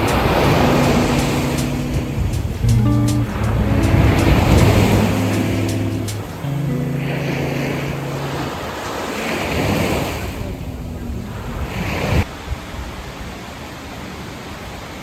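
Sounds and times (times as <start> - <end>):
wind on microphone: 0.0 - 13.4
surf washing on beach: 0.0 - 15.0.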